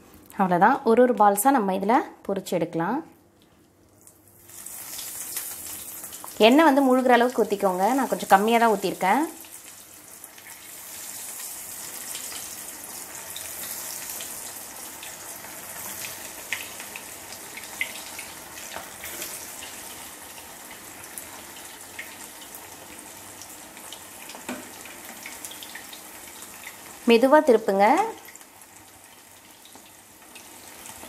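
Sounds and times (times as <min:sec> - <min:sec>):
food deep-frying in hot oil: 0:04.0 - 0:31.0.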